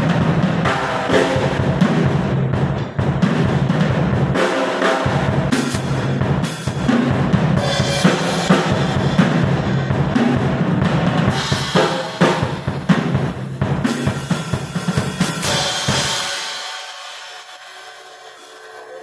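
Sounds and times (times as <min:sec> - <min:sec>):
drum kit playing: 0:00.0 - 0:19.0.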